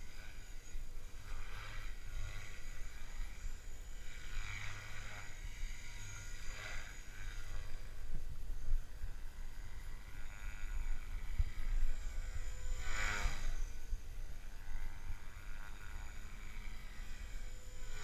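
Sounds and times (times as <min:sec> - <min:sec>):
rc helicopter rotor buzz: 0:00.0 - 0:18.0
wind rumble on microphone: 0:00.0 - 0:18.0.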